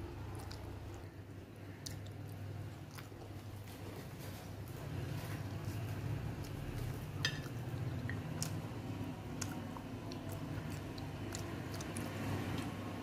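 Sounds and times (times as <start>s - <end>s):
chewing: 0.0s - 13.0s
steady low hum: 0.0s - 13.0s
wet squishing of rice: 0.0s - 13.0s.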